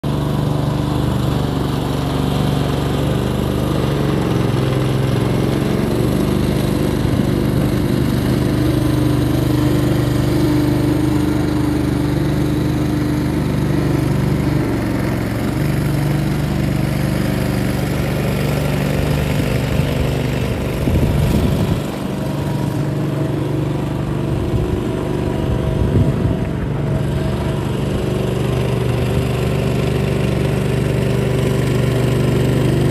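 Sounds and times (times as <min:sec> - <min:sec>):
skid steer loader engine running: 0:00.0 - 0:32.9.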